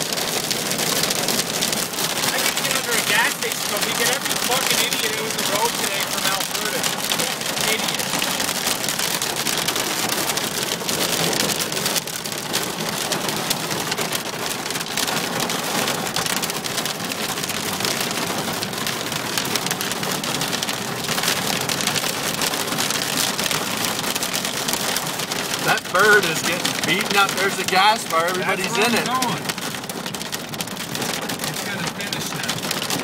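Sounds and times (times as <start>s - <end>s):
rain and hail pelting car roof: 0.0s - 33.0s.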